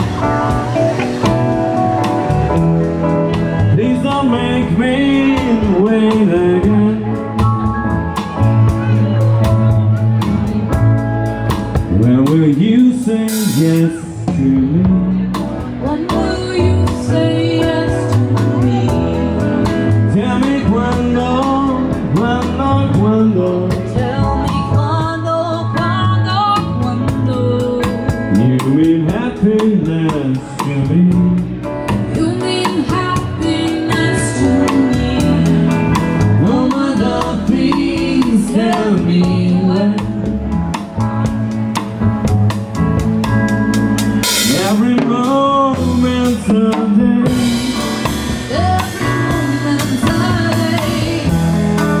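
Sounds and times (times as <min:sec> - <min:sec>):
drum kit with cymbals: 0:00.0 - 0:52.0
electric guitar: 0:00.0 - 0:52.0
upright double bass: 0:00.0 - 0:52.0.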